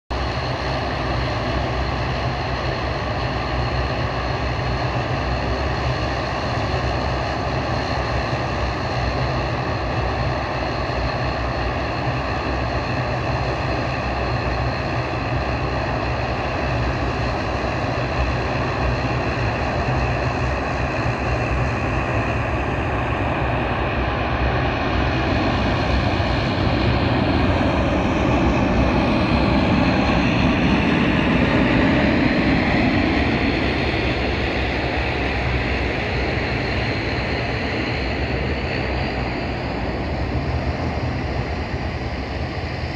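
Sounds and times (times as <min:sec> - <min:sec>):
jet engine rumble and whine: 0:00.1 - 0:42.9.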